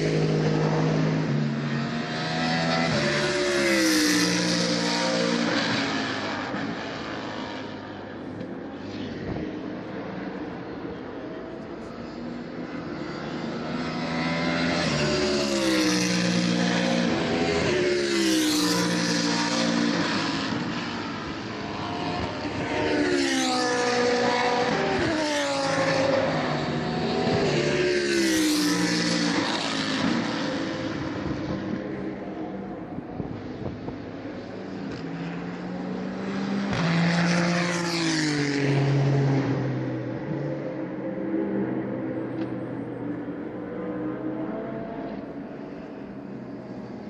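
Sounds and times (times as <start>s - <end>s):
race cars passing at speed: 0.0s - 47.0s.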